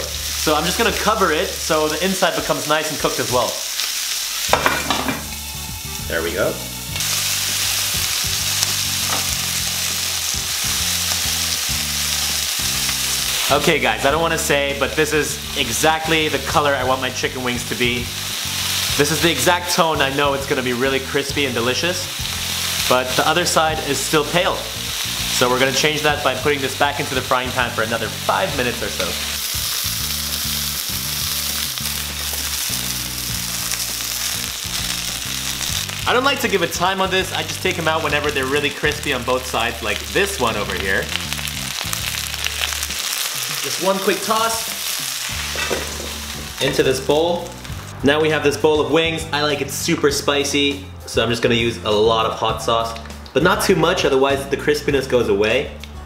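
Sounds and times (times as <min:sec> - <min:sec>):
chicken wings sizzling in a pan: 0:00.0 - 0:47.9
low background music: 0:00.0 - 0:56.0.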